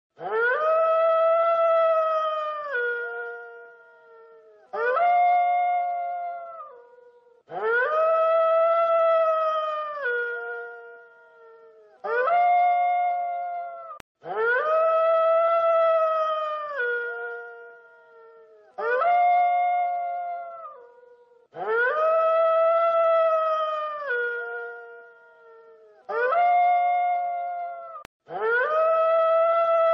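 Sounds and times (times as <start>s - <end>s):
wolf howling: 0.2s - 29.9s.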